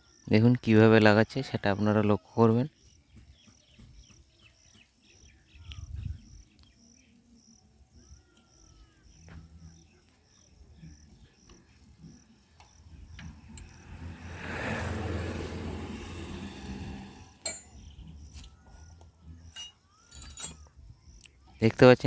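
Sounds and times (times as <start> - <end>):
faint cricket chirping: 0.0 - 15.3, 17.0 - 22.0.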